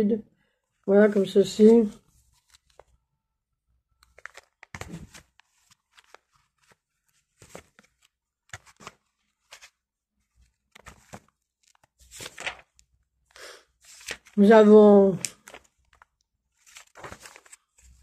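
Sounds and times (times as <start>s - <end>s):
paper pages rustling and crinkling: 1.6s - 3.0s, 4.0s - 12.9s, 13.8s - 18.0s.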